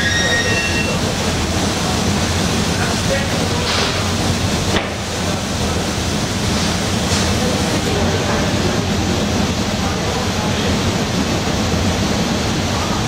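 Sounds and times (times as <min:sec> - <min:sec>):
industrial roar: 0:00.0 - 0:13.0.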